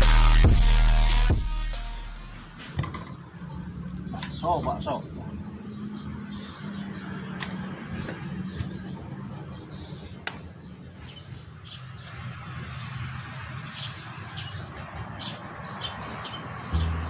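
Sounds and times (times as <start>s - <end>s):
small birds chirping: 3.3s - 17.0s.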